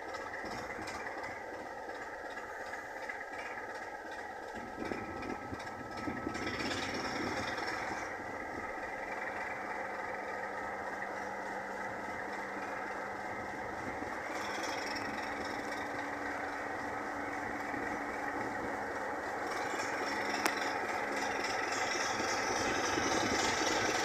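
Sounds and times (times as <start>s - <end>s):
diesel locomotive engine idling: 0.0s - 24.0s.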